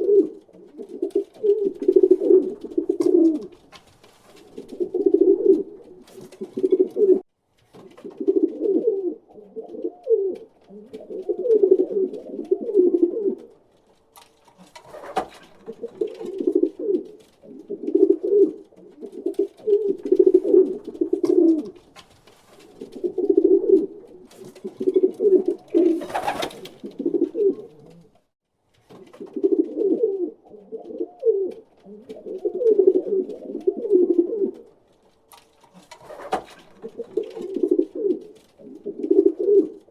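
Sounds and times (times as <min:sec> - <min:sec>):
pigeons cooing: 0:00.0 - 0:03.6, 0:04.4 - 0:07.2, 0:08.0 - 0:13.6, 0:14.8 - 0:21.9, 0:22.6 - 0:28.2, 0:29.1 - 0:34.7, 0:35.8 - 0:39.9.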